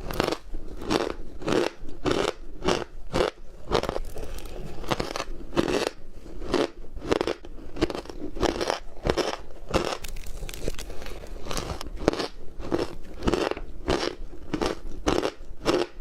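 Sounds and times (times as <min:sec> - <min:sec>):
person chewing ice: 0:00.0 - 0:16.0.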